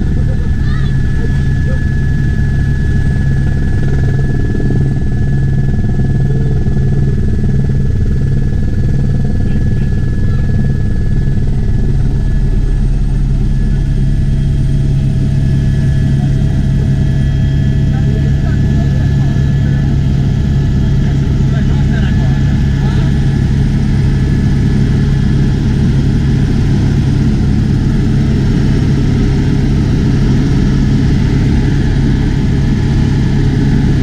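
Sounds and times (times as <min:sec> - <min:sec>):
helicopter engine drone: 0:00.0 - 0:34.0.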